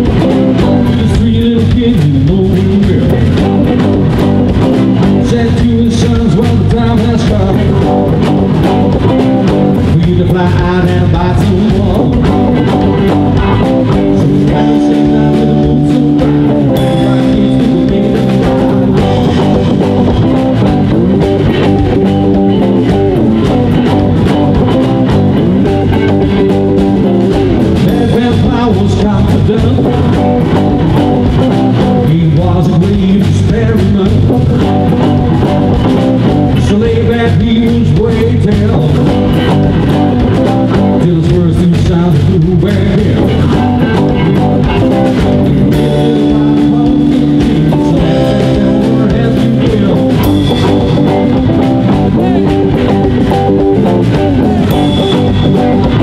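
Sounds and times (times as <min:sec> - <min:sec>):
drums: 0:00.0 - 0:56.0
electric guitars: 0:00.0 - 0:56.0.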